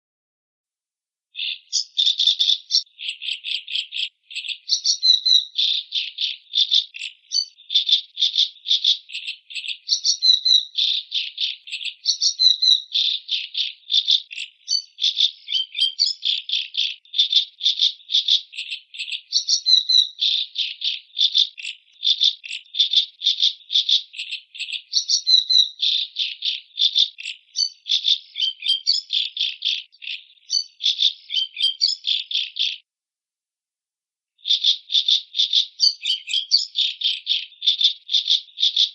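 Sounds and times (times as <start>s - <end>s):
macaw calls: 1.4s - 32.8s, 34.4s - 38.9s.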